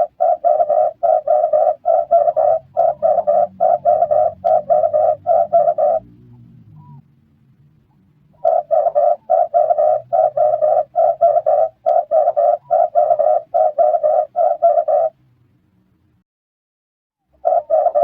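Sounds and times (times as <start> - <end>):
dove cooing: 0.0 - 7.0, 8.3 - 15.2, 17.4 - 18.0.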